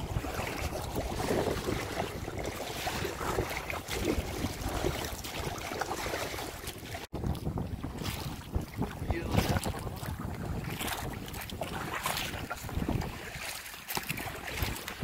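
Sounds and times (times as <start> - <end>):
water lapping against boat: 0.0 - 15.0
wind buffeting microphone: 0.0 - 15.0.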